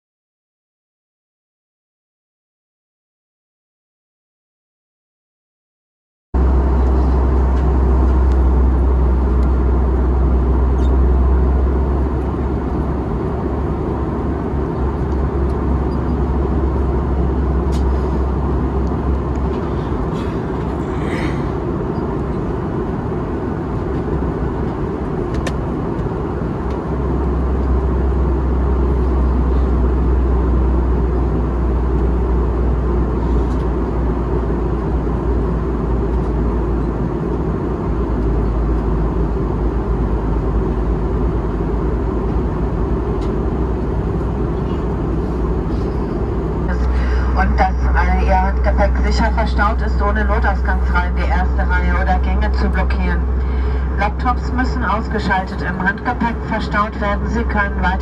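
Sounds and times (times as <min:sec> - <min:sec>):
airflow and jet engines in cabin: 0:06.4 - 0:58.0
deep engine rumble: 0:06.4 - 0:58.0.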